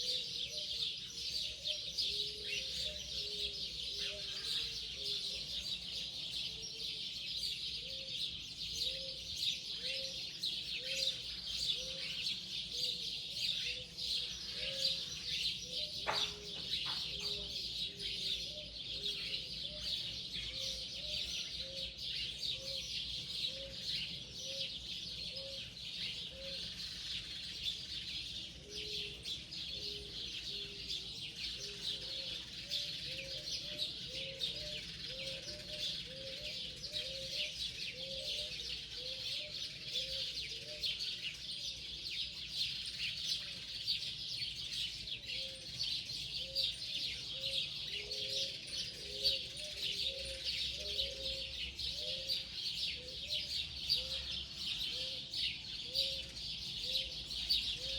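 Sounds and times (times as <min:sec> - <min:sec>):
birds chirping: 0:09.8 - 0:57.9.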